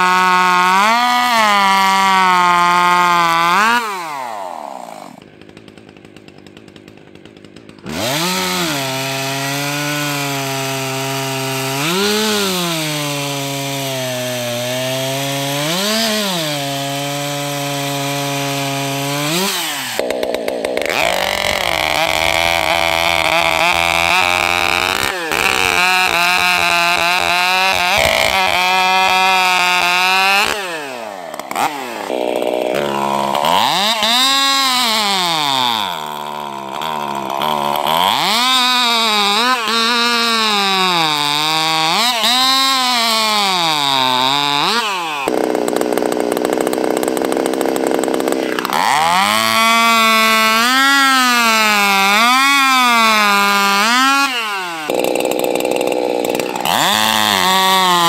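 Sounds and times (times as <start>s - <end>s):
chainsaw cutting wood: 0.0s - 58.0s
high-revving chainsaw: 0.0s - 58.0s.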